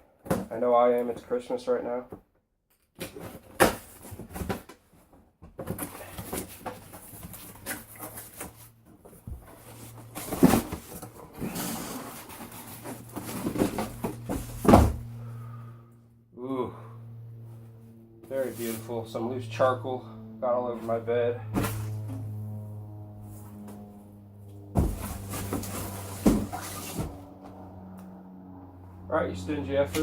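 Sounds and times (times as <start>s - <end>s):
low steady hum: 5.7s - 30.0s.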